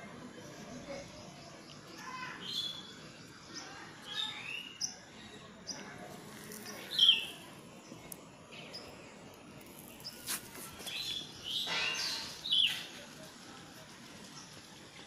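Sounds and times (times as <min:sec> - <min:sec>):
faint outdoor background noise: 0:00.0 - 0:15.0
birds chirping: 0:00.3 - 0:13.1.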